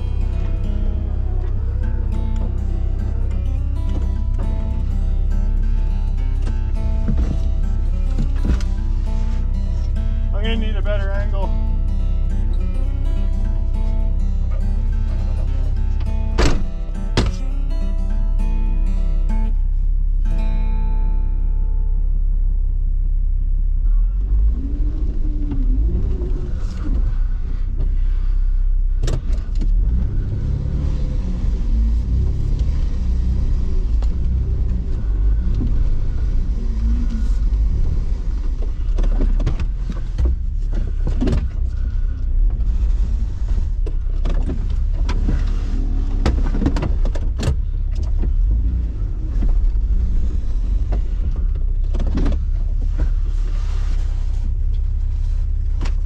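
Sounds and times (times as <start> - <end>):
off-road vehicle engine rumbling: 0.0 - 56.0.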